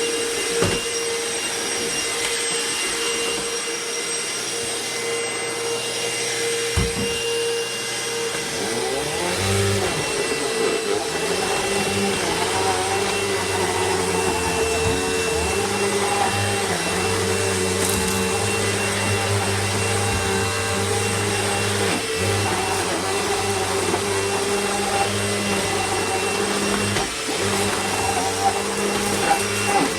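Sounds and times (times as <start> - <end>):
vacuum cleaner motor whine: 0.0 - 29.9.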